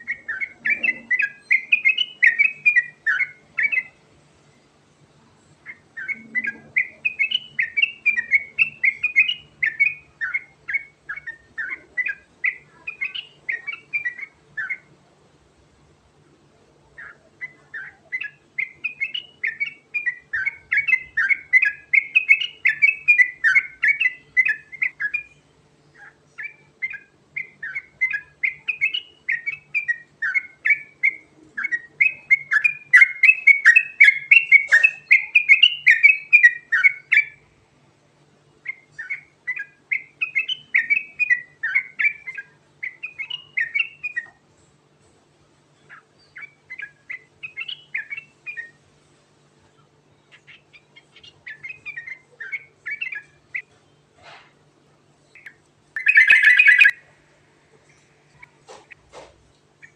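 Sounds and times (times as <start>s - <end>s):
bird singing rapid warbling song: 0.0s - 15.0s, 16.8s - 37.5s, 38.5s - 44.4s, 45.7s - 48.8s, 49.6s - 54.1s, 55.2s - 59.0s.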